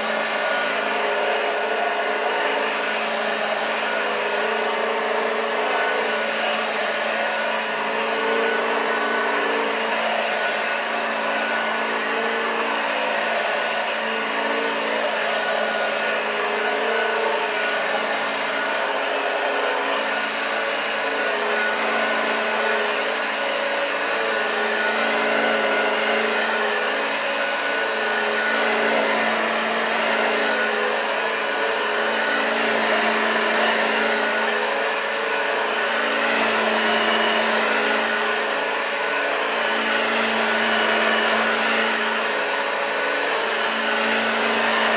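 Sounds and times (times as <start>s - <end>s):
vacuum cleaner motor humming: 0.0s - 44.9s.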